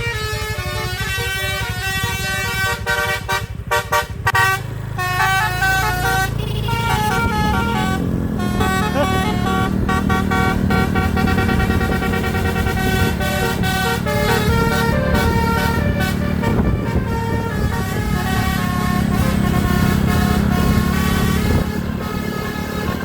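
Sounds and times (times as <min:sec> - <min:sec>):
bus engine running: 0:00.0 - 0:23.0
multi-note air horn tune: 0:00.0 - 0:23.0.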